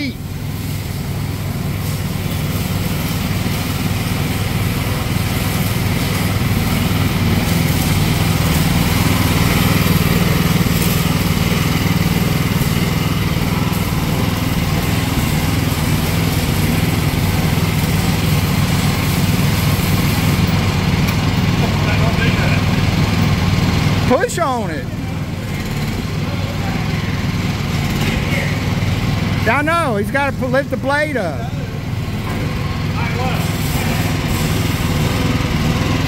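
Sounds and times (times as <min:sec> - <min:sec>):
small excavator engine running: 0:00.0 - 0:36.0.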